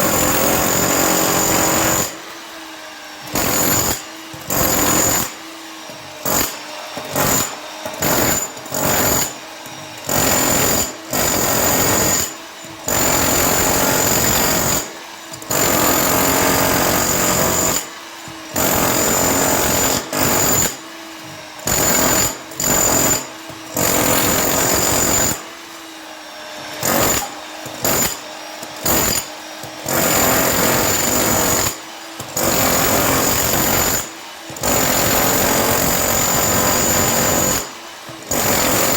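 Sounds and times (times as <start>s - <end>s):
hammer drill into concrete: 0.0s - 38.9s.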